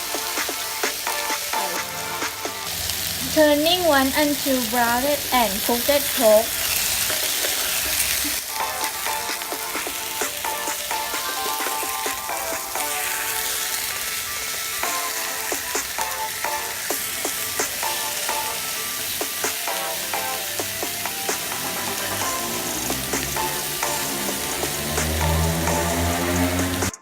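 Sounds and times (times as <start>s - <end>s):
meat sizzling in a pan: 0.0s - 26.9s
light background music: 0.0s - 27.0s.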